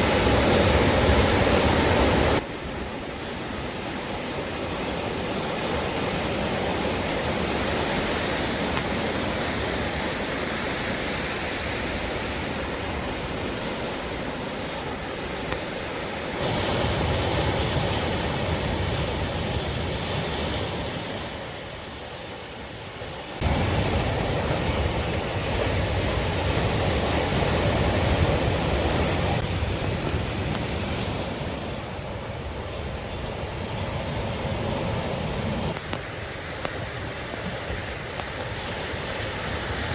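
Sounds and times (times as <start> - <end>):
sea surf washing against shore: 0.0 - 39.9.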